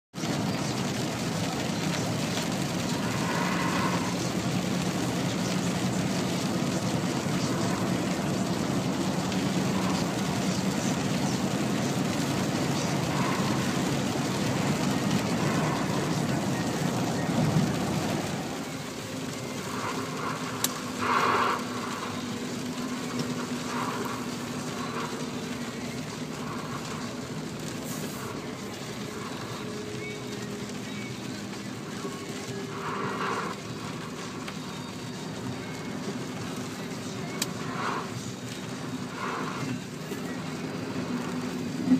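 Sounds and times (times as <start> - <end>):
heavy rain: 0.1 - 41.9
tyres on wet road: 0.1 - 41.9
low engine hum: 0.2 - 41.9.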